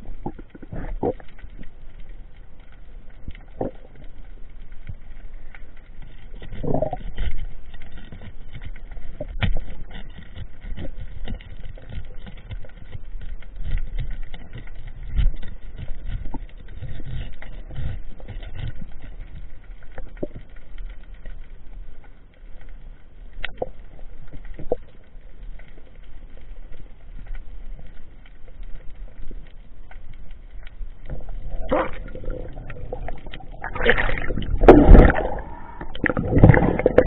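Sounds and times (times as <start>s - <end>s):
crackle of faint clicks: 0.0s - 37.0s
underwater water rumbling: 0.0s - 37.0s.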